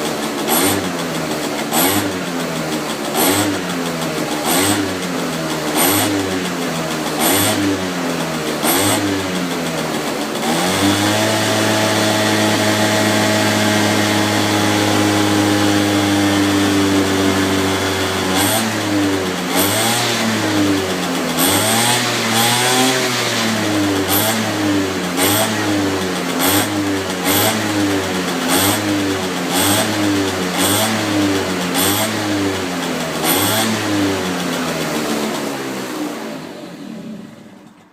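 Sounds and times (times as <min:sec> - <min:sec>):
two-stroke engine revving: 0:00.0 - 0:37.9.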